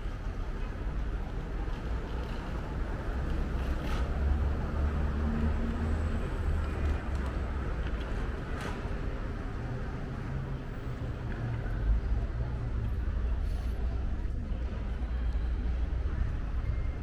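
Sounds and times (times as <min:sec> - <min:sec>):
city street ambience: 0:00.0 - 0:17.0.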